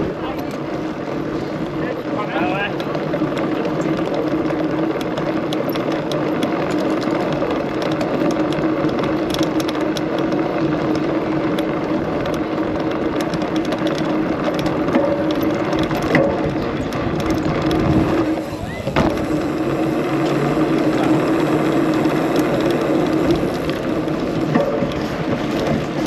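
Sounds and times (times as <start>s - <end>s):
bike tyre rolling over cobblestones: 0.0s - 26.0s.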